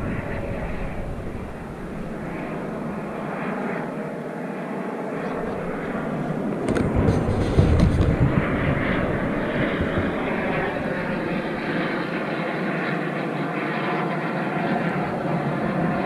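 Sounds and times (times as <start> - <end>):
jet engines rushing overhead: 0.0 - 16.0.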